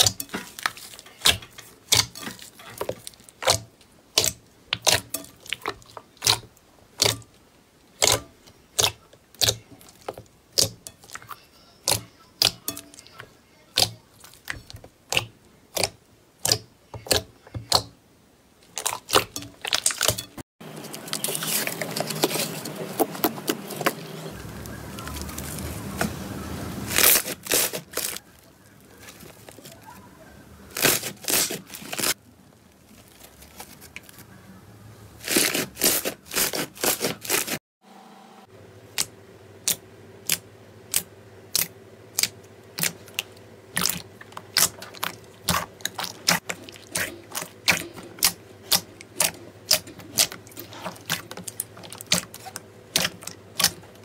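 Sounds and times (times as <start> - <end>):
slime squelching and crackling: 0.0 - 17.9, 18.6 - 34.4, 35.2 - 37.6, 39.7 - 54.0.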